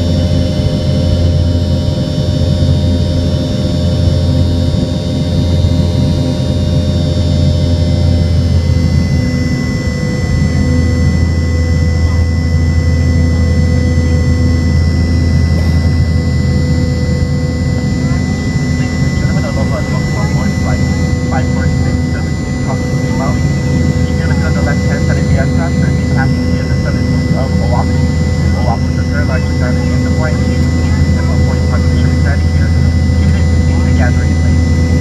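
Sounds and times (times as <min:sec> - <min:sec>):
jet engine rumble and whine: 0:00.0 - 0:35.0.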